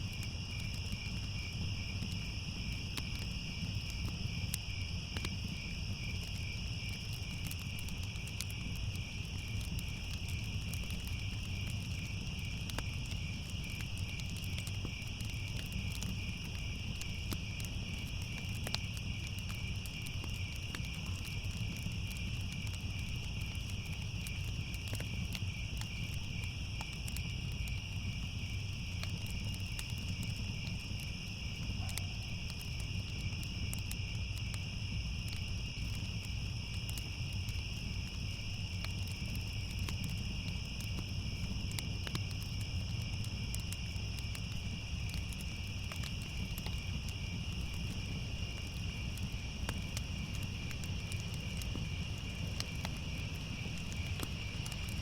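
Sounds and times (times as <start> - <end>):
crickets chirping: 0.0 - 55.0
fire crackling and popping: 0.0 - 55.0.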